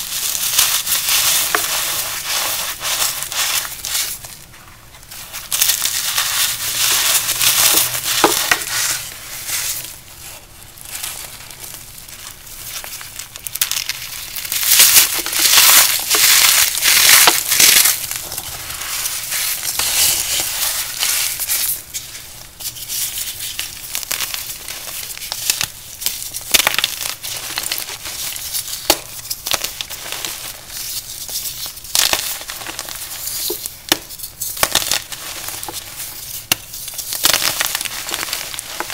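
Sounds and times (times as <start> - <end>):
powder blocks crunching: 5.1 - 22.2, 23.2 - 38.9.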